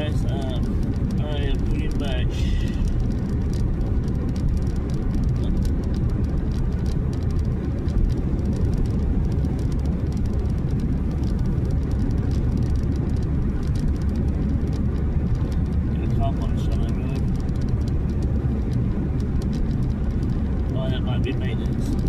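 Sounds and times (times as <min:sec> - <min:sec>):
car tyre and engine rumble: 0:00.0 - 0:22.0
light ticks: 0:00.0 - 0:22.0.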